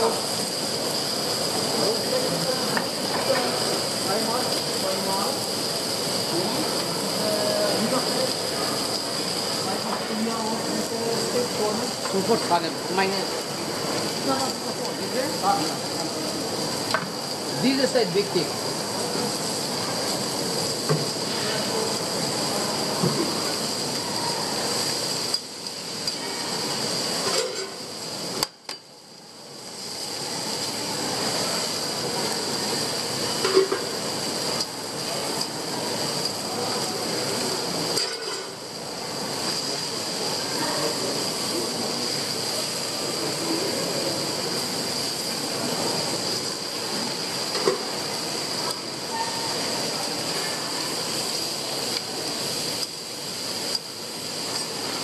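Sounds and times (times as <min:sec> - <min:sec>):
food sizzling on a griddle: 0:00.0 - 0:55.0.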